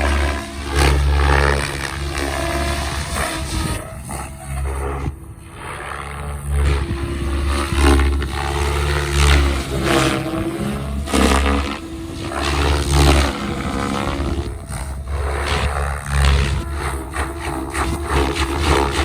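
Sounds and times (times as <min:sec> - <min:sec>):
rc helicopter rotor chopping: 0:00.0 - 0:19.0.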